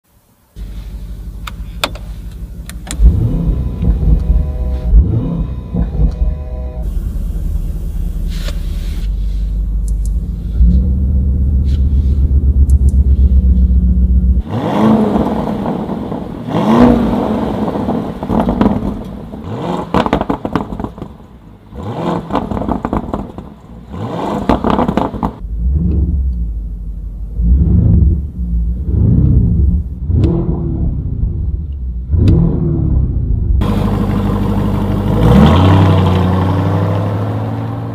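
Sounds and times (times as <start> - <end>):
car exhaust idling and revving: 0.6 - 37.9
exhaust crackles: 0.6 - 37.9.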